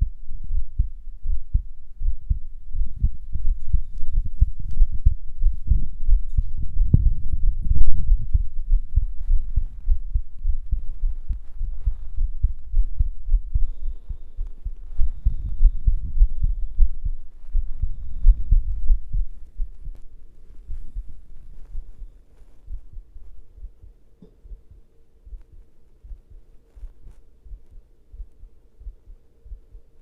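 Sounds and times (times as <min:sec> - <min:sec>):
heartbeat thumps: 0:00.0 - 0:30.0.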